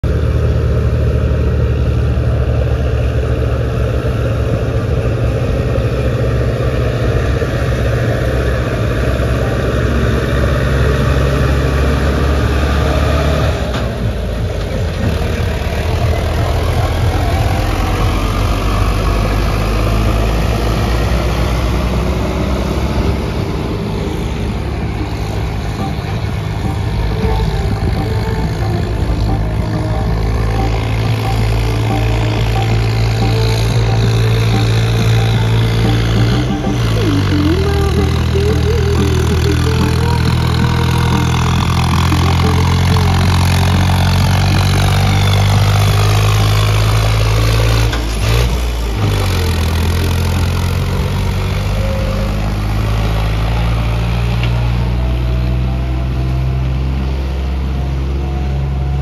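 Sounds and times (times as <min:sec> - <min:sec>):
second tractor engine: 0:00.0 - 0:59.0
tractor diesel engine under load: 0:00.0 - 0:59.0.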